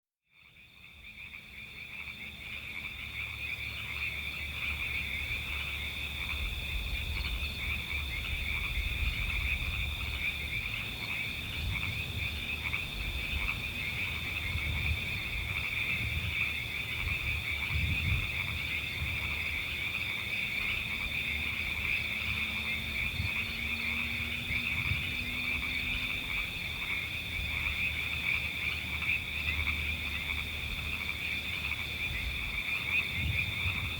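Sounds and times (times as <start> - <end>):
frogs trilling: 0.3 - 33.9.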